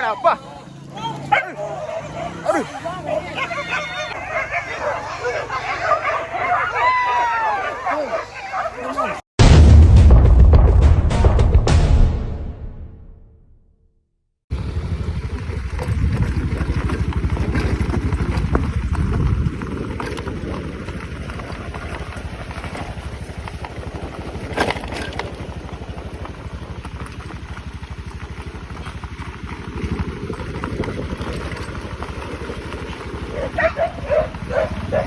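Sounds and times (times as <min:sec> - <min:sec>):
motorcycle engine rumbling: 0:00.0 - 0:09.2, 0:14.5 - 0:35.0.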